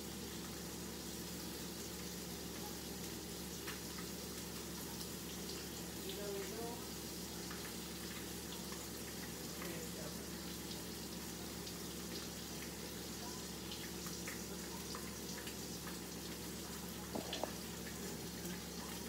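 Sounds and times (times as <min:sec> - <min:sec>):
fish sizzling in a hot pan: 0:00.0 - 0:19.0.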